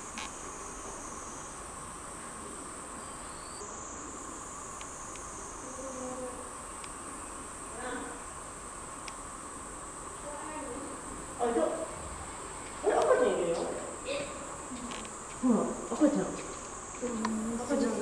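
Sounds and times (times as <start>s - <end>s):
cicadas chorus: 0.0s - 18.0s
low steady buzz: 0.0s - 18.0s.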